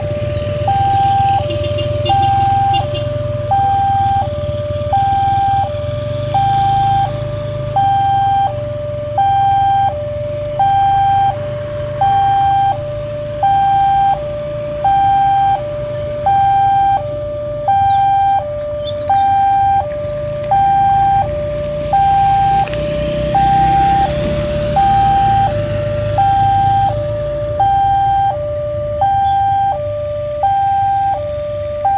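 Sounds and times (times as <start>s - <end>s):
level crossing two-tone alarm: 0.0s - 11.3s, 11.9s - 21.3s, 21.9s - 31.9s.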